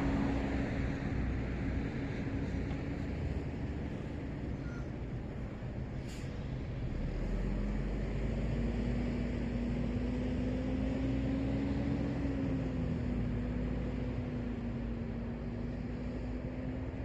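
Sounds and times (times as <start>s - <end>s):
low engine hum: 0.0s - 17.0s
road traffic noise: 0.0s - 17.0s.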